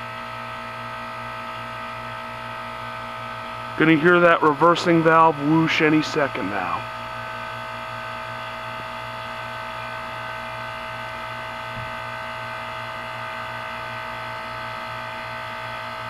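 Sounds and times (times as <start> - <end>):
heat pump buzzing hum: 0.0 - 16.0.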